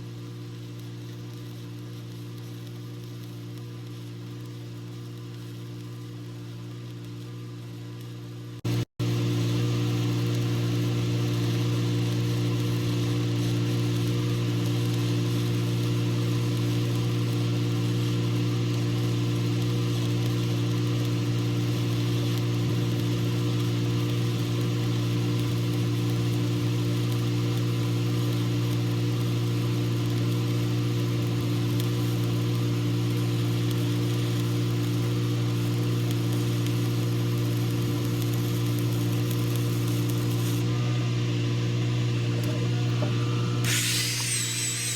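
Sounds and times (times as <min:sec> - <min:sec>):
welding machine humming: 0:00.0 - 0:44.9
welding arc hiss: 0:00.1 - 0:08.3, 0:09.1 - 0:40.6, 0:43.1 - 0:44.9.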